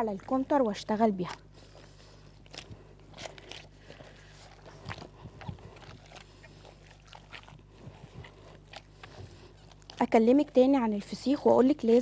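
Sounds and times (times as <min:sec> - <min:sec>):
dough squishing in metal bowl: 0:00.0 - 0:01.6, 0:02.2 - 0:12.0
low steady hum: 0:00.0 - 0:12.0.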